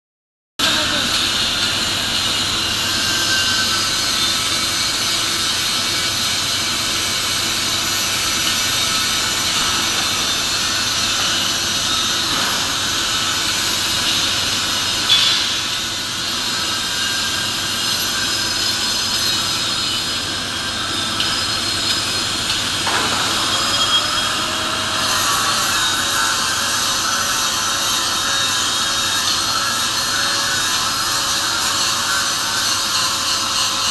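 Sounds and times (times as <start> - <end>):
loud machinery hiss: 0.6 - 33.8.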